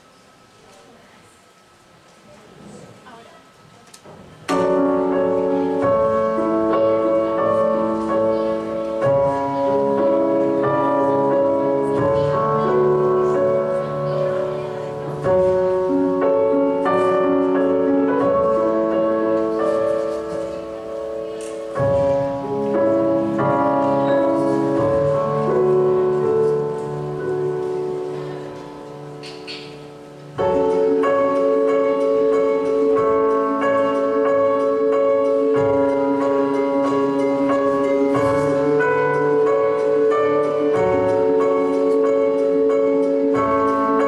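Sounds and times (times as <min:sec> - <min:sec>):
slow music of held chords: 0:04.5 - 0:44.0.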